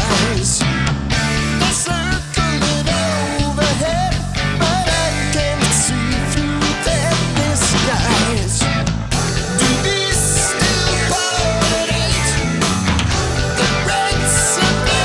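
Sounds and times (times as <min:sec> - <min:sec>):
lead guitar line bending: 0:00.0 - 0:15.0
rock band playing: 0:00.0 - 0:15.0.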